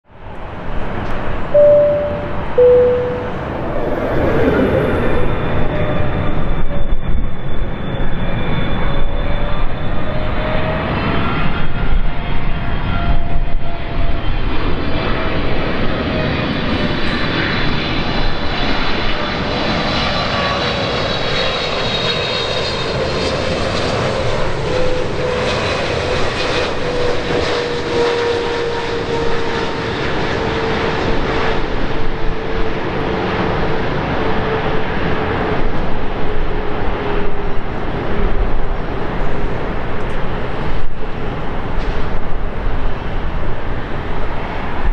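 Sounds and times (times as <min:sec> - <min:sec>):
jet engines rushing and whining: 0:00.1 - 0:44.9.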